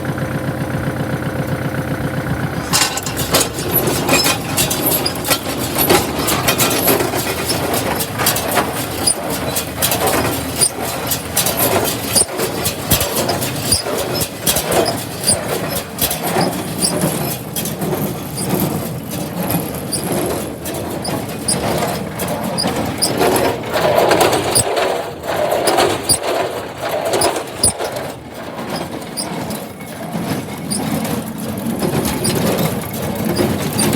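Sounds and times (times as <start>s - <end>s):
tractor engine running: 0.0s - 33.9s
baler rattling and clanking: 1.6s - 33.9s.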